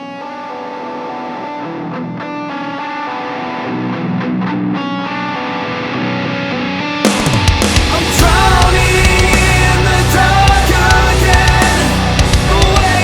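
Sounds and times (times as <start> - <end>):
electric guitar picked notes: 0.0 - 13.0
heavy rock band: 0.0 - 13.0.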